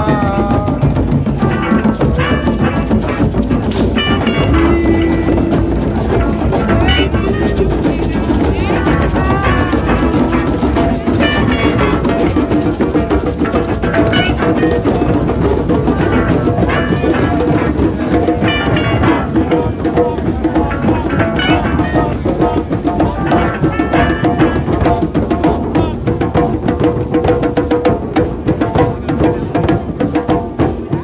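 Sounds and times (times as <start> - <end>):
melody over drumming: 0.0 - 26.8
hand drums playing: 0.0 - 31.0.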